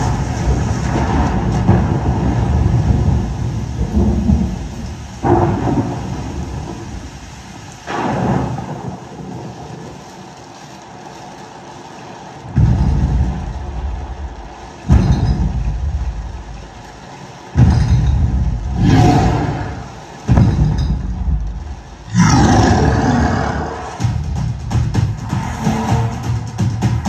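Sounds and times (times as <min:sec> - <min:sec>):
vehicle engine surges with heavy bass: 0:00.0 - 0:27.0.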